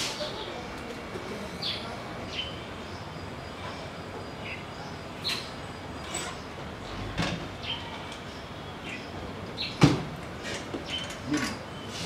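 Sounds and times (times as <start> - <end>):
outdoor background hum: 0.0 - 12.0
small birds chirping: 1.4 - 9.8, 10.5 - 12.0.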